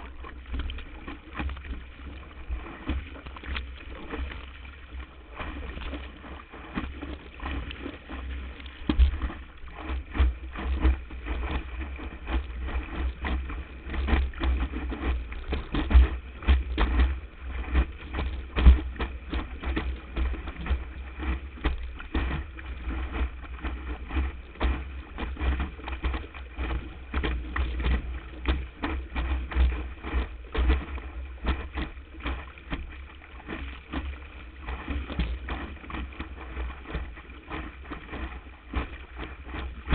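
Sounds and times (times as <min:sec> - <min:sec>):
board slapping water: 0:00.0 - 0:39.9
wind rumble on microphone: 0:00.0 - 0:39.9.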